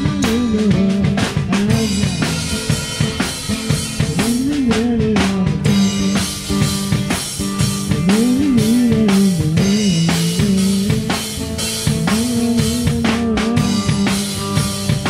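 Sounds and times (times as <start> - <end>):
drum kit beat: 0.0 - 15.0
electric guitar: 0.0 - 15.0.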